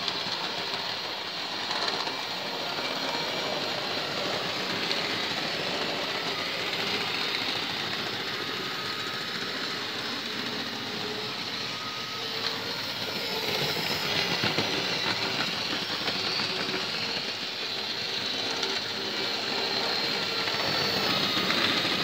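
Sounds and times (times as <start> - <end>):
electric motor whirr: 0.1 - 22.0.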